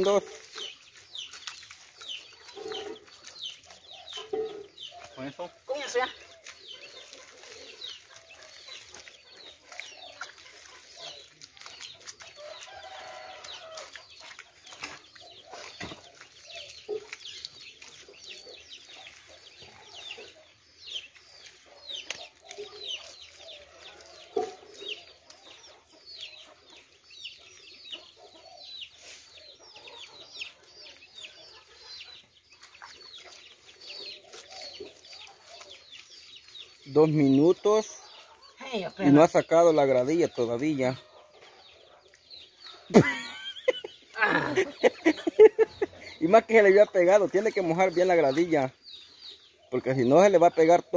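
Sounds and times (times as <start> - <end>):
chickens clucking: 0.0 - 50.9
chicks peeping: 0.0 - 50.9.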